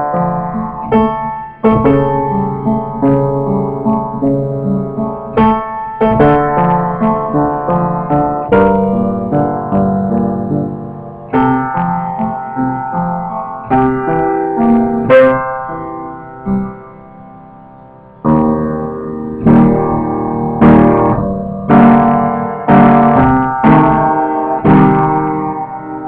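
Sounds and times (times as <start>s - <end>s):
distorted piano chords: 0.0s - 26.0s.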